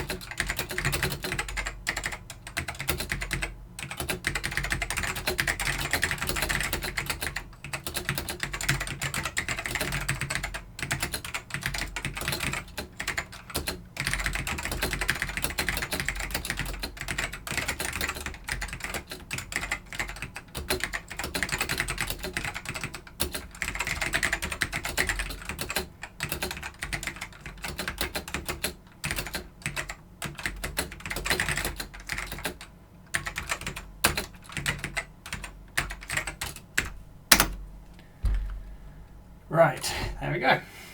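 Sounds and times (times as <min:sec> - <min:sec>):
fast mechanical keyboard typing: 0:00.0 - 0:37.6.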